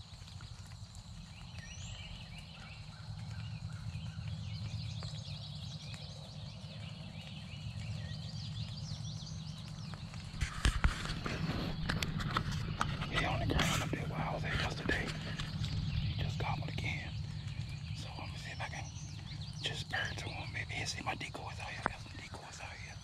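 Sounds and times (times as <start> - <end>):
songbirds chirping and trilling: 0.0 - 23.0
steady low rumble: 0.0 - 23.0.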